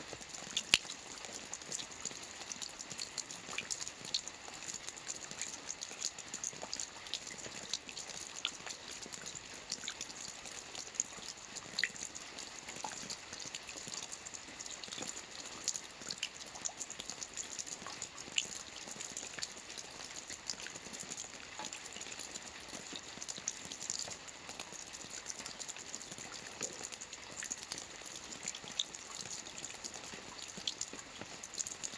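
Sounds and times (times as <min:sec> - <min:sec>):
rain pattering on a roof: 0:00.0 - 0:31.9.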